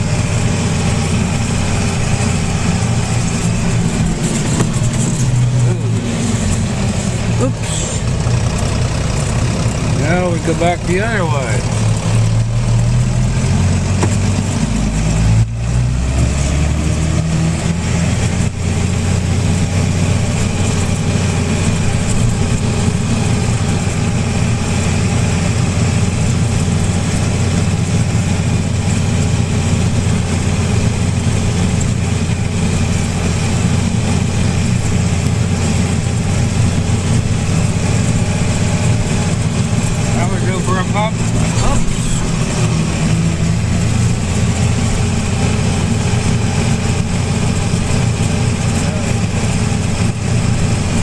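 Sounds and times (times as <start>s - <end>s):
tractor engine droning: 0.0s - 51.0s.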